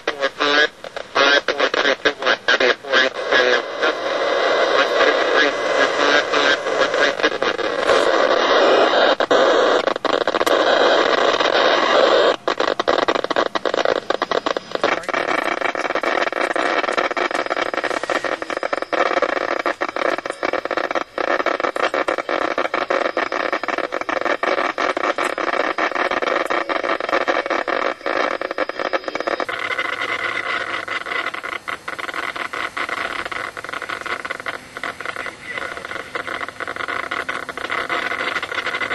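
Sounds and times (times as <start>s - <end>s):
faint tones: 0.0s - 38.9s
harsh radio interference noise: 0.0s - 38.9s.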